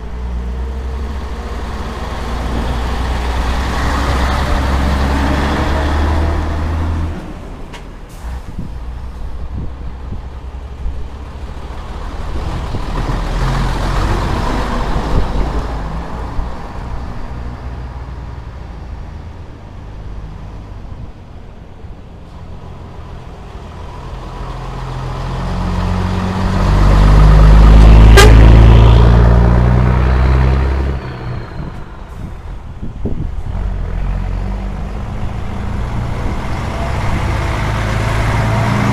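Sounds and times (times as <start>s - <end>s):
trucks driving past: 0.0s - 38.9s.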